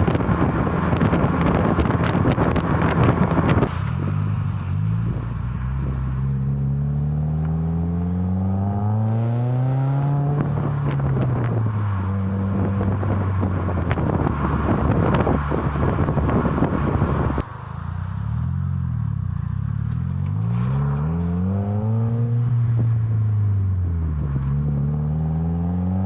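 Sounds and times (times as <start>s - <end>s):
wind noise on microphone: 0.0s - 17.5s, 21.1s - 26.0s
car engine revving: 0.0s - 26.0s.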